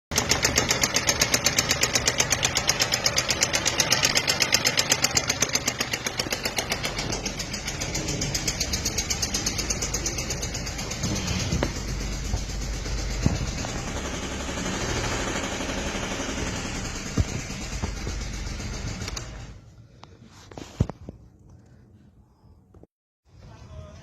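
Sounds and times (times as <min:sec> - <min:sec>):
car engine ticking: 0:00.1 - 0:19.6.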